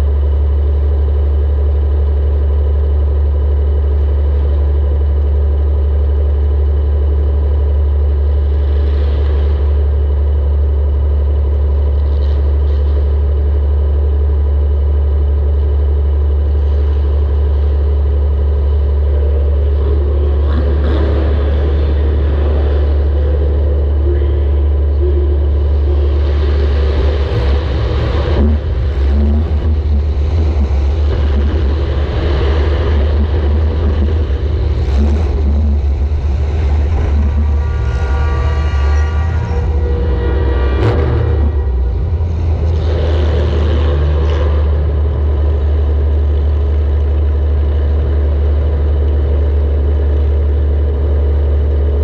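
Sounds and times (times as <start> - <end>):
car engine droning: 0.0 - 52.0.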